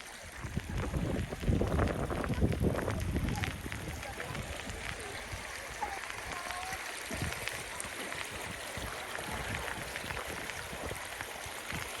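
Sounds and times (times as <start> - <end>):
rain and floodwater rushing: 0.0 - 12.0.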